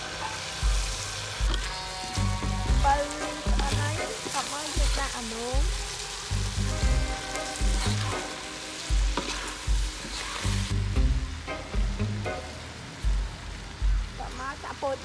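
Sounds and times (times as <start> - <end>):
background music with low beat: 0.0 - 14.5
corn sizzling in a pan: 0.0 - 15.0.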